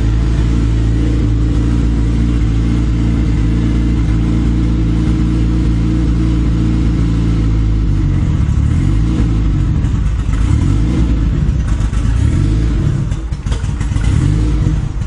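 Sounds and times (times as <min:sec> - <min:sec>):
turbocharged car engine running: 0:00.0 - 0:15.0.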